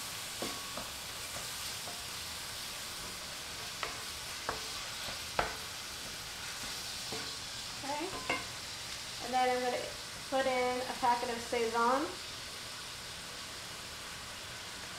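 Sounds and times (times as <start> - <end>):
meat sizzling in a skillet: 0.0 - 14.9.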